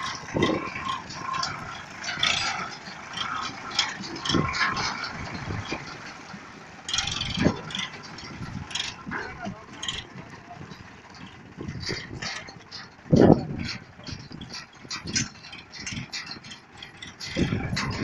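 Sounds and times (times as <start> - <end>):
diesel tractor engine running: 0.0 - 18.0
rattling and clanking of body: 0.0 - 18.0.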